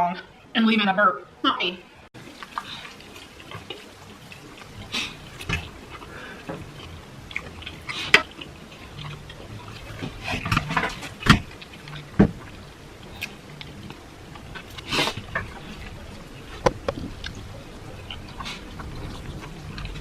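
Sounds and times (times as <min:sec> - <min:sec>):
wet chewing: 0:02.2 - 0:20.0.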